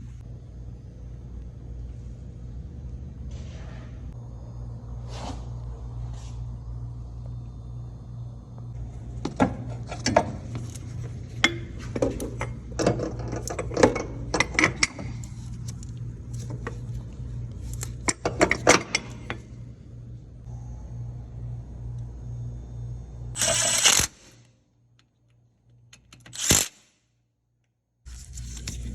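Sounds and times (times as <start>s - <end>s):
steady low hum: 0.0s - 26.5s, 28.0s - 28.9s.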